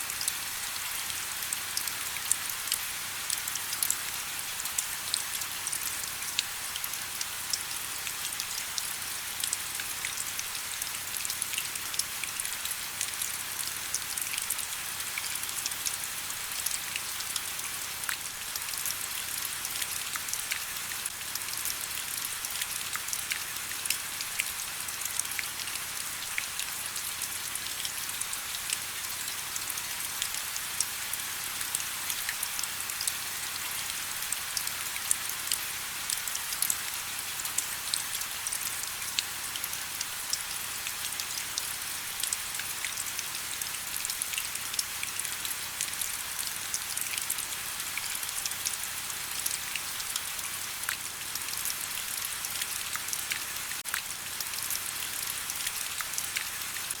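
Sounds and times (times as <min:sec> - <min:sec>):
raindrops ticking on surface: 0:00.1 - 0:57.0.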